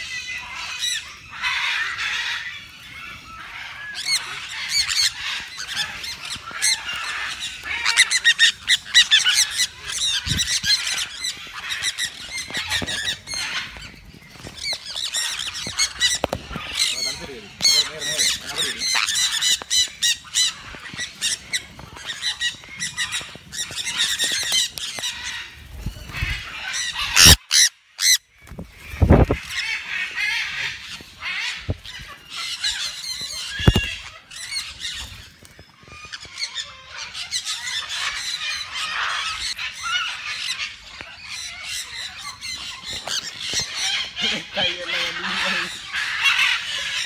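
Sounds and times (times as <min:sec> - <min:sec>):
parrots screeching and chattering: 0:00.0 - 0:47.0.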